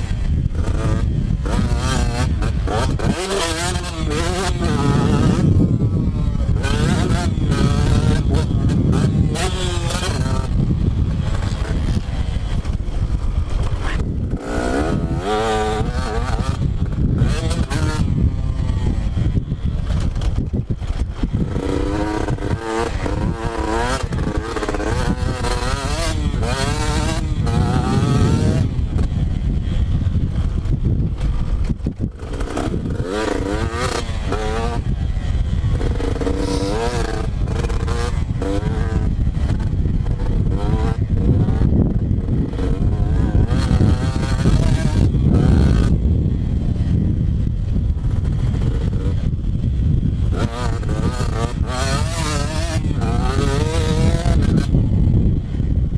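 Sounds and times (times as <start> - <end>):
dirt bike engine revving: 0.0 - 55.8.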